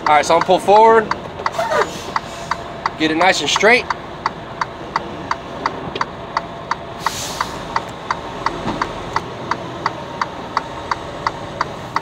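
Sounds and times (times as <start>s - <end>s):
truck engine running: 0.0s - 12.0s
turn signal flasher ticking: 0.0s - 12.0s.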